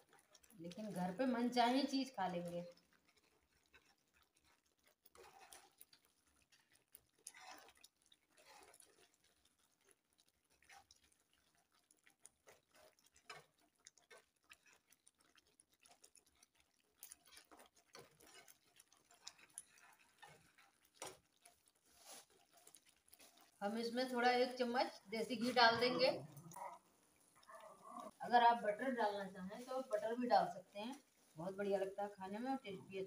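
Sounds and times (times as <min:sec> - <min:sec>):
spoon stirring thick gravy: 0:00.0 - 0:33.0.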